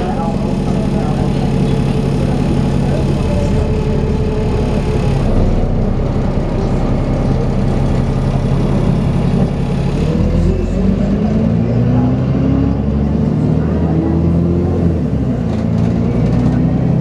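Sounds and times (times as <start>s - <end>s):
bus engine drone with whine: 0.0s - 17.0s.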